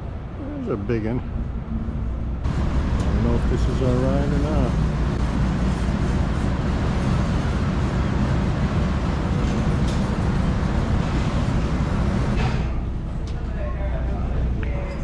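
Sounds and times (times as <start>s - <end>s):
ferry diesel engines rumbling: 0.0s - 14.9s.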